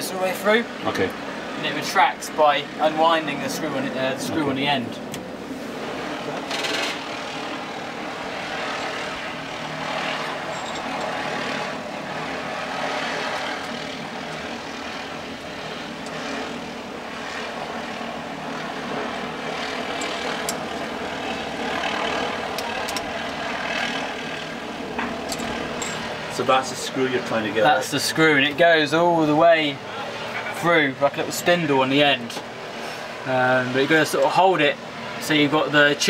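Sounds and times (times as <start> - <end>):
machine droning: 0.0 - 35.5.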